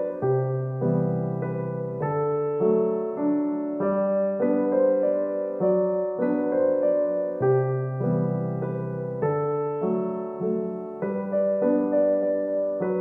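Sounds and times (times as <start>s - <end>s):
soft piano melody: 0.0s - 13.0s.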